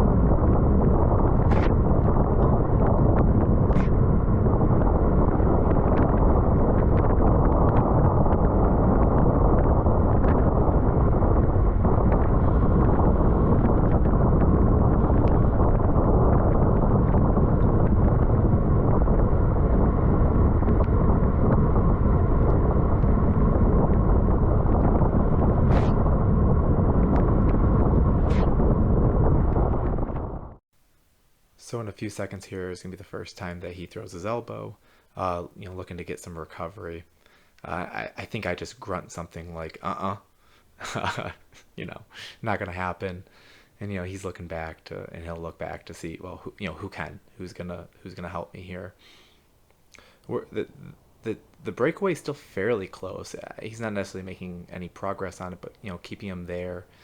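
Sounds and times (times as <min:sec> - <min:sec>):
wind rushing over microphone: 0:00.0 - 0:30.6, 0:40.8 - 0:57.0.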